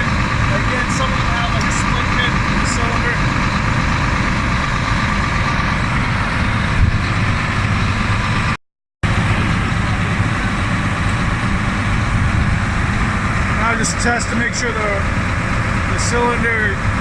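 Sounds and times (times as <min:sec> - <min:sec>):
combine engine running: 0:00.0 - 0:17.0.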